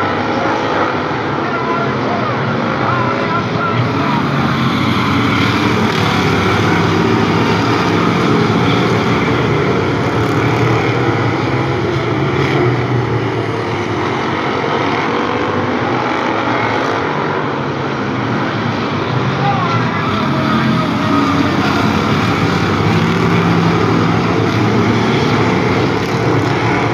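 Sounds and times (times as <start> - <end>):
race car engines droning: 0.0 - 26.9.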